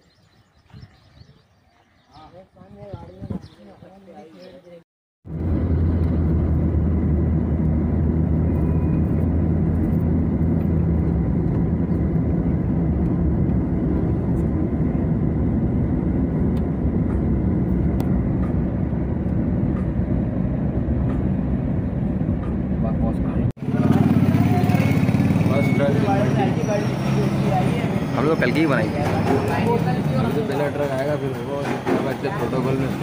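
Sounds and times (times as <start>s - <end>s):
vehicle engine and road noise: 5.2s - 33.0s.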